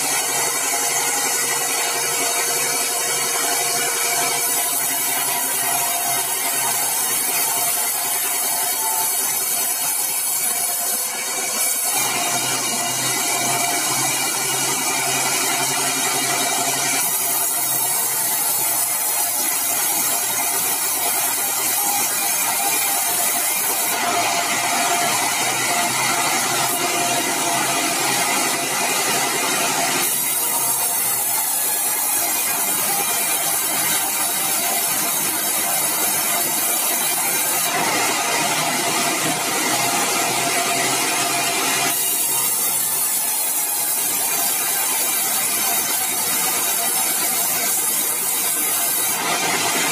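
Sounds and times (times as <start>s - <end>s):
sawmill saw cutting timber: 0.0s - 49.9s.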